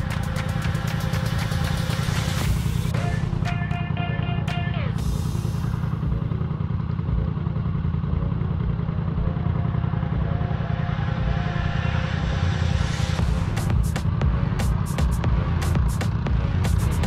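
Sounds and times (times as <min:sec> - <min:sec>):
atv engine droning: 0:00.0 - 0:17.0.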